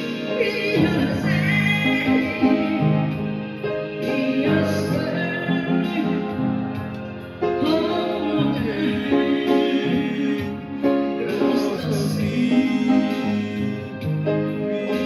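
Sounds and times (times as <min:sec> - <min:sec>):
piano melody over chords: 0:00.0 - 0:15.0.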